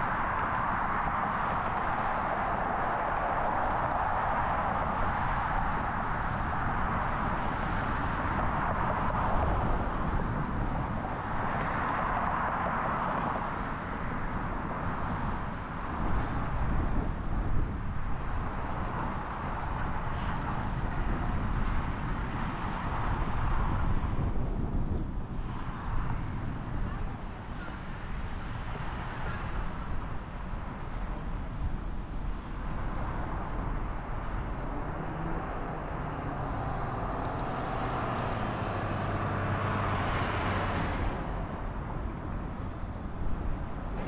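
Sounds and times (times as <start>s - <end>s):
tyre and road noise: 0.0s - 44.0s.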